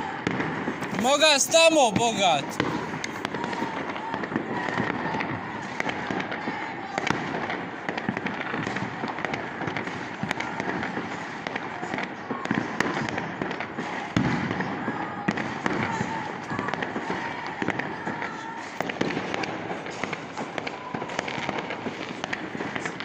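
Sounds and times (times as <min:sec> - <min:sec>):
fireworks and firecrackers crackling: 0:00.0 - 0:23.0.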